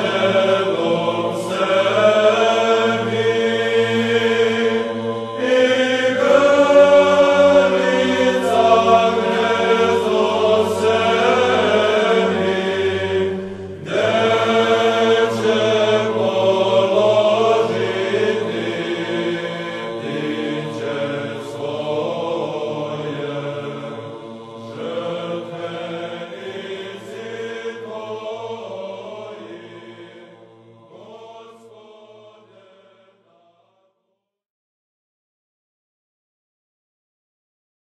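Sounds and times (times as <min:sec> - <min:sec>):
choir chanting: 0:00.0 - 0:34.0.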